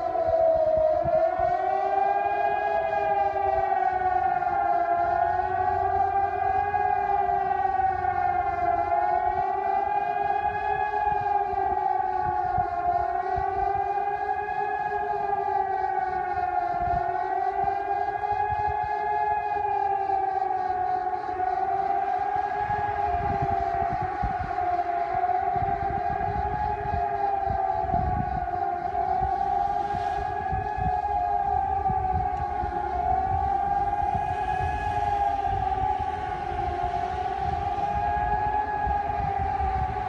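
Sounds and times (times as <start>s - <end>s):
wavering civil defence sirens: 0.0s - 40.0s.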